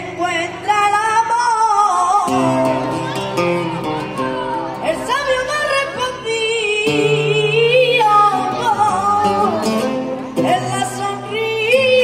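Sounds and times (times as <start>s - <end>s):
guitar chords: 0.0s - 12.0s
person singing with vibrato: 0.0s - 12.0s.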